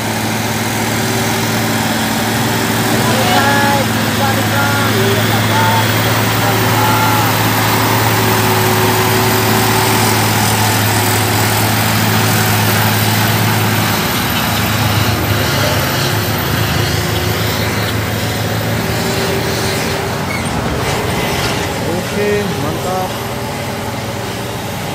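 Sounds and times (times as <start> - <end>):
truck diesel engine under load: 0.0 - 24.9.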